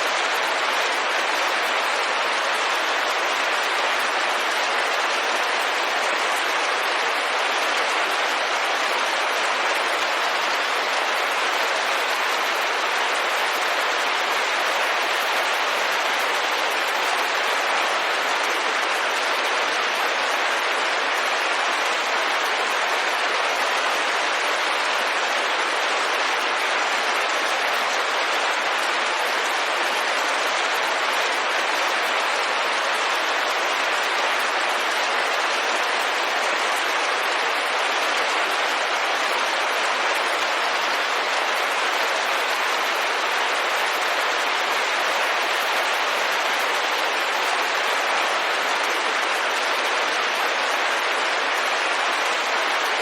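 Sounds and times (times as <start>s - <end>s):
rain pattering on a window: 0.0s - 53.0s.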